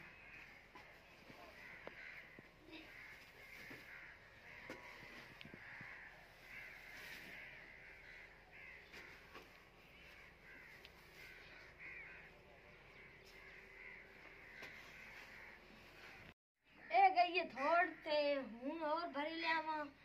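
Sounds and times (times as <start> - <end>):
birds calling harshly: 0.0 - 17.0.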